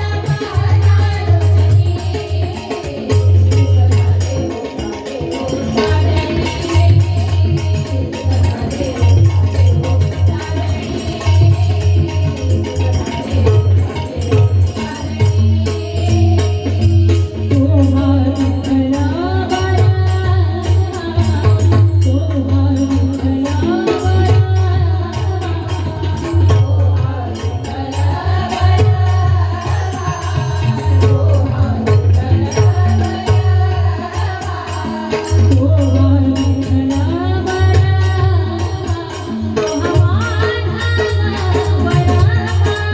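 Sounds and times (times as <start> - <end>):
hand drum: 0.0 - 42.9.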